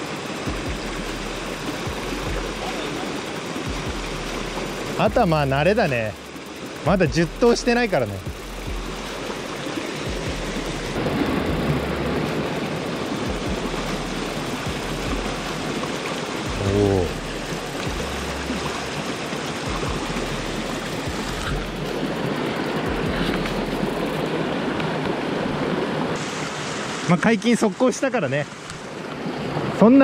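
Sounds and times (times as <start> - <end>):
stream rushing over boulders: 0.0 - 30.0.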